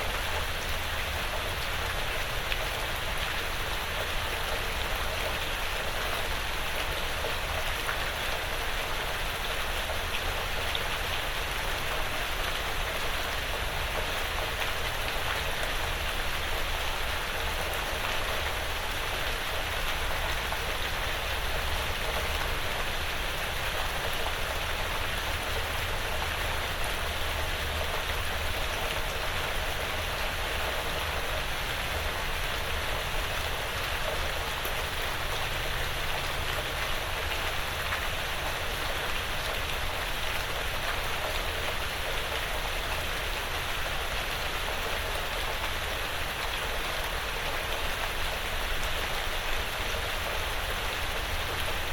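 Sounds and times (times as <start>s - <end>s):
rain on a porch roof: 0.0s - 51.9s.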